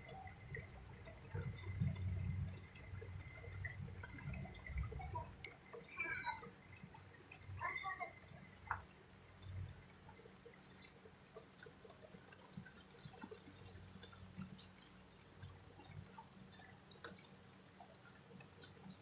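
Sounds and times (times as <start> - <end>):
rain drops dripping: 0.0 - 19.0.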